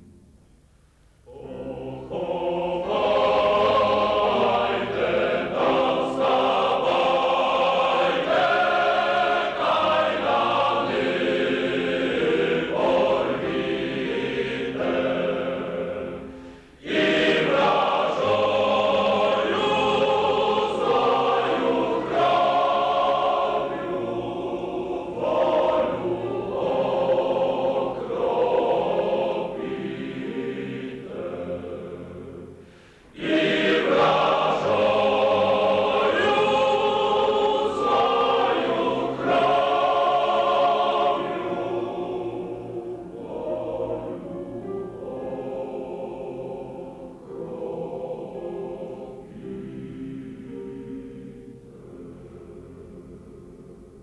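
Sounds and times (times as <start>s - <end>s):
choir singing slow song: 0.0s - 54.0s.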